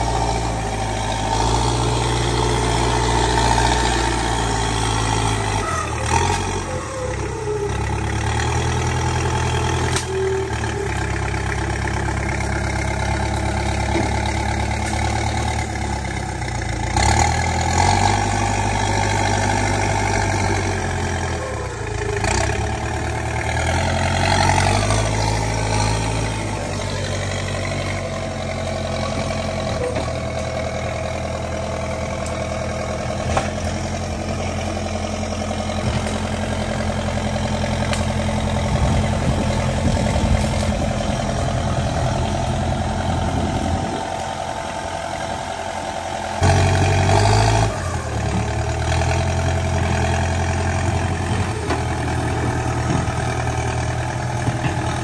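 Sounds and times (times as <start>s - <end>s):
diesel engine revving under load: 0.0s - 55.0s.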